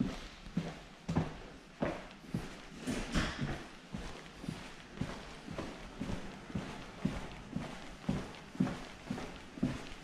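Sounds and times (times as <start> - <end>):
footsteps walking: 0.0 - 10.0.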